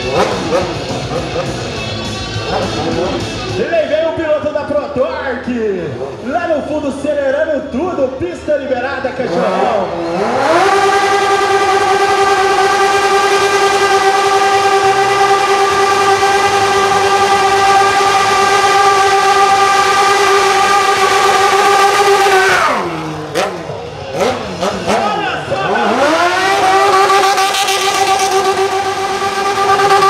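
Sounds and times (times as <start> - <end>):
motorcycle engine revving: 0.0 - 3.7, 9.1 - 30.0.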